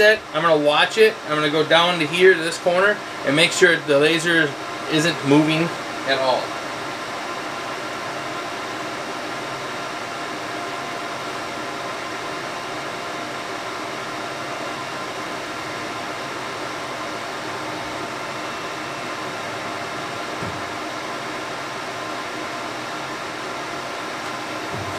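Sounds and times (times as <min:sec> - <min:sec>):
faint hum tones: 0:00.0 - 0:24.9
fan noise: 0:00.0 - 0:24.9.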